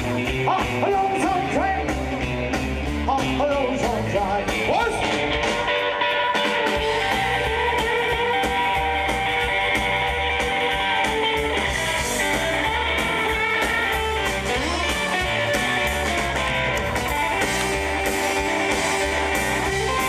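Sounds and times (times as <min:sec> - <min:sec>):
bass and drums: 0:00.0 - 0:20.0
electric guitar lead lines: 0:00.0 - 0:20.0.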